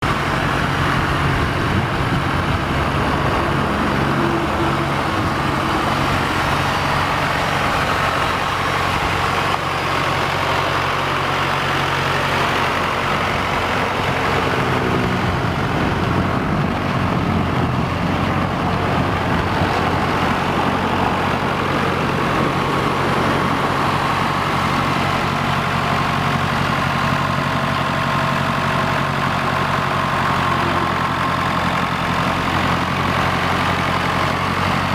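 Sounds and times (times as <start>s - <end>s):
diesel tractor engine idling: 0.0s - 34.9s.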